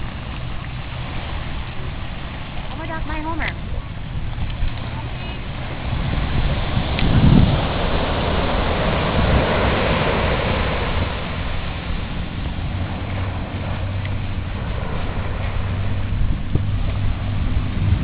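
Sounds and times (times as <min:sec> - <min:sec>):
ocean surf washing on shore: 0:00.0 - 0:18.0
wind buffeting microphone: 0:00.0 - 0:18.0.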